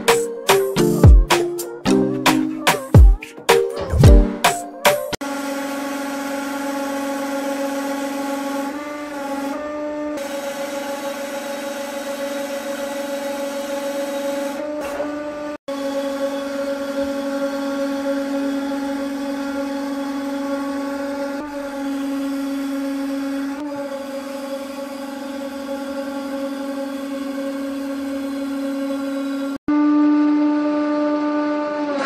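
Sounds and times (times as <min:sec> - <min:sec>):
hydraulic press droning hum: 0:05.2 - 0:32.0.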